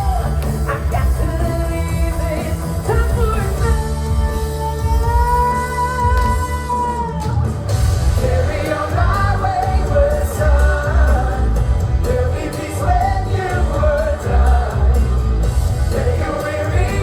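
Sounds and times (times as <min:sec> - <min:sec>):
heavy bass beat: 0:00.0 - 0:06.7, 0:07.3 - 0:17.0
pop song with singing: 0:00.0 - 0:17.0.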